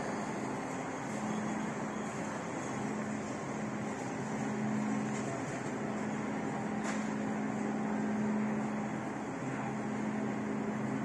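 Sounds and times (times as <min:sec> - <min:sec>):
refrigerator and air conditioning hum: 0:00.0 - 0:11.0.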